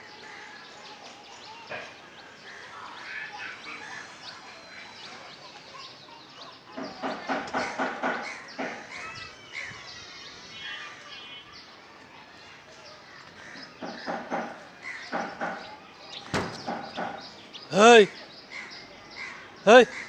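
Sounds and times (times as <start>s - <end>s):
harsh bird calls: 0.0s - 11.8s, 12.4s - 20.0s
birds chirping: 0.0s - 20.0s.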